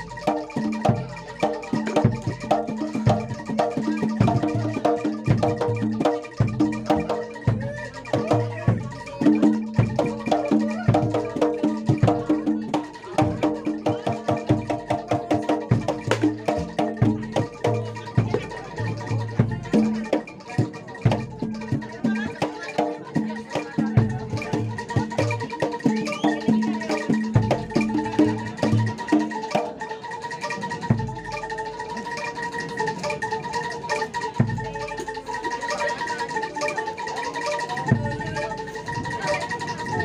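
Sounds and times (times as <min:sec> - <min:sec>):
hand drums: 0:00.0 - 0:40.0
tuned mallet percussion: 0:00.0 - 0:40.0.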